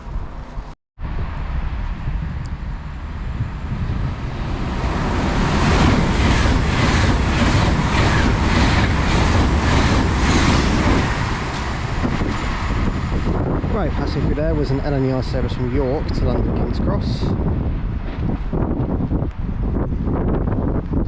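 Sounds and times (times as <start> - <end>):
electric train passing at speed: 0.0 - 21.0.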